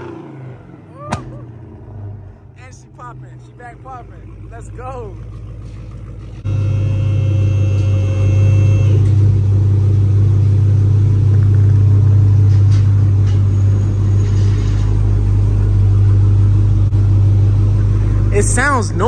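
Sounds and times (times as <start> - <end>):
car engine idling: 0.0 - 14.2, 14.9 - 19.0.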